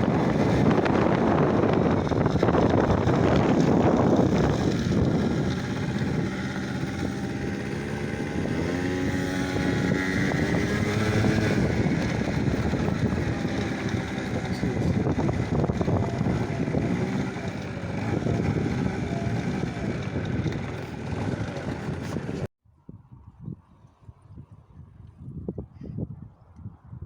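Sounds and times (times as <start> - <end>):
motor running: 0.0 - 22.5
wind on microphone: 0.0 - 27.0.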